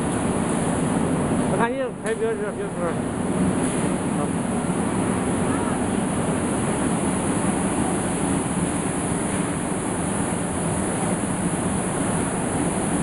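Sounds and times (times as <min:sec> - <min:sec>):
washing machine water rushing: 0:02.4 - 0:13.0.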